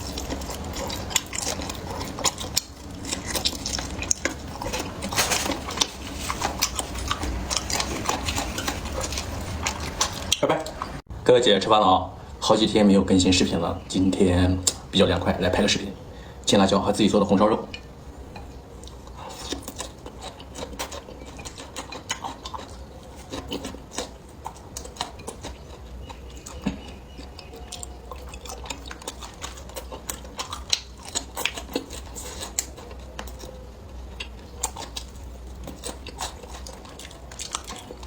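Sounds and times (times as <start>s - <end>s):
close-up chewing: 0.0s - 11.0s, 17.5s - 38.0s.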